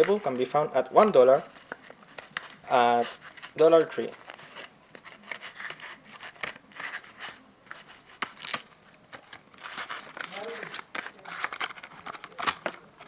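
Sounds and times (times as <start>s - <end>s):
rustling and scraping of packaging: 0.0s - 13.0s.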